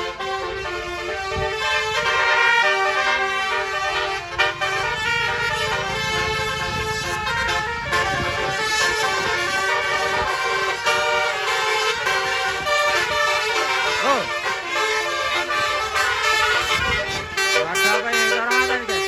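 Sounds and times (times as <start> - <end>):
bus engine rumble: 0.0 - 19.0
multi-tone bus horn melody: 0.0 - 19.0.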